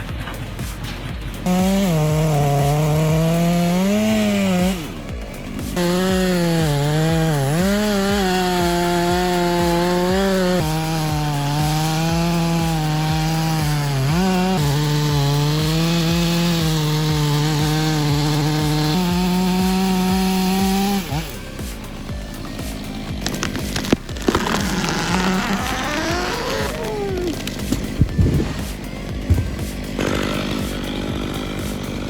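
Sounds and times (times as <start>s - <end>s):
chainsaw cutting wood: 0.0s - 32.0s.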